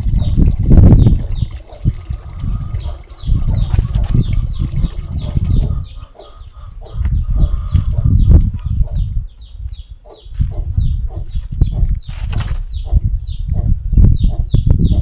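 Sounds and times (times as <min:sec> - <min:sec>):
chickens peeping and clucking: 0:00.1 - 0:15.0.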